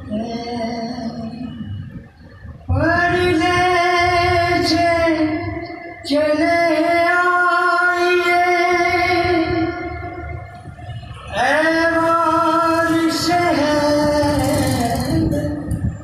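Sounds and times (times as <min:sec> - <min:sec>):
man singing devotional song: 0:00.0 - 0:01.7, 0:02.7 - 0:10.3, 0:11.3 - 0:15.8.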